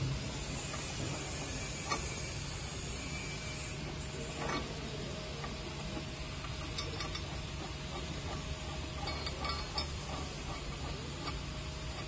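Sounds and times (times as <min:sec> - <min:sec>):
factory background hum: 0:00.0 - 0:12.0.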